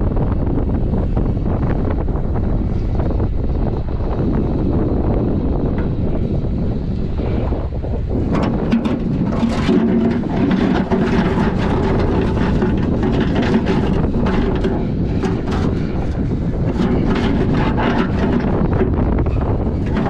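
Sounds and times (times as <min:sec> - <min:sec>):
engine running: 0:00.0 - 0:20.0
wind buffeting microphone: 0:00.0 - 0:20.0.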